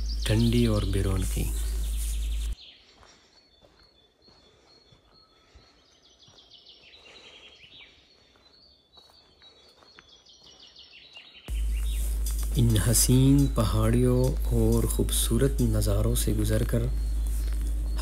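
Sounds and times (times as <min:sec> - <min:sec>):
outdoor background noise: 0:00.0 - 0:18.0
small bird chirping: 0:00.0 - 0:18.0.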